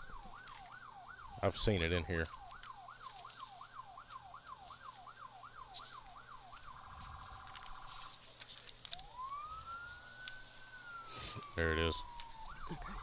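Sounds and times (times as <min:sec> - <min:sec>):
distant police siren: 0:00.0 - 0:13.0.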